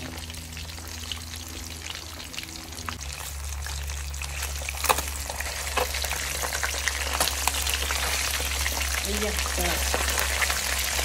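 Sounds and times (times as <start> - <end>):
liquid sizzling in hot pan: 0.0 - 11.0
steady low hum: 0.0 - 11.0.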